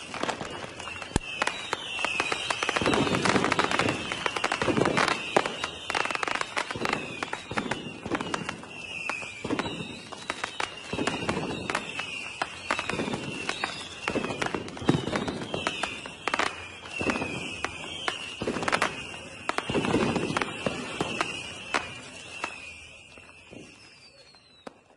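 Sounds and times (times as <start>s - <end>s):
fireworks crackling and booming: 0.0s - 24.9s
high falling firework chirp: 0.0s - 24.9s.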